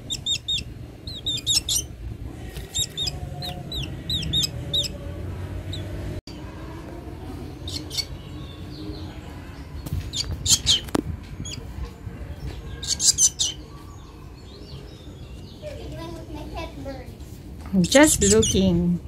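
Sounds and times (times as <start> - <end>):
bird chirping: 0.0 - 6.5, 7.5 - 15.9, 17.8 - 18.8.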